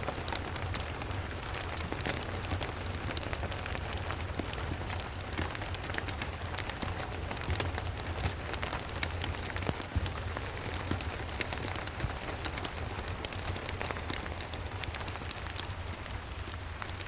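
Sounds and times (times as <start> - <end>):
fireplace crackling: 0.0 - 17.0
steady rain: 0.0 - 17.0.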